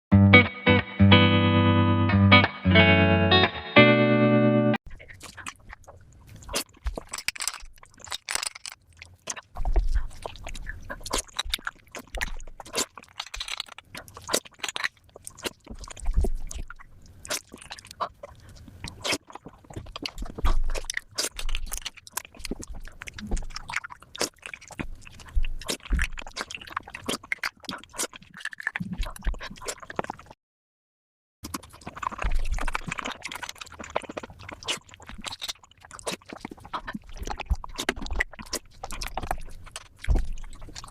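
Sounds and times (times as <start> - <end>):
chewing clicks and crunches: 4.9 - 30.4, 31.4 - 40.9.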